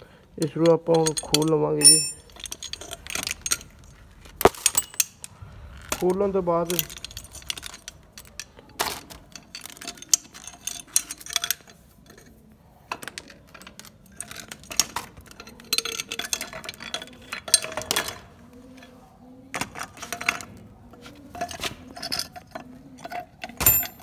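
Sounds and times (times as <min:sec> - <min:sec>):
metallic clinks and clatter: 0:00.4 - 0:18.9, 0:19.5 - 0:24.0.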